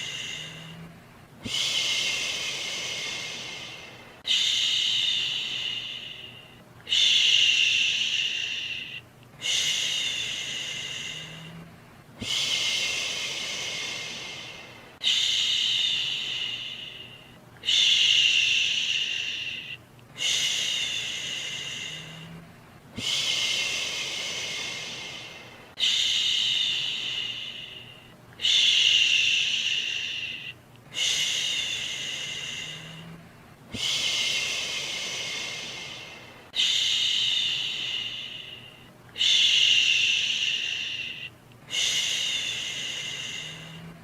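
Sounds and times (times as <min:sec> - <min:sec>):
person shushing: 0:00.0 - 0:44.0.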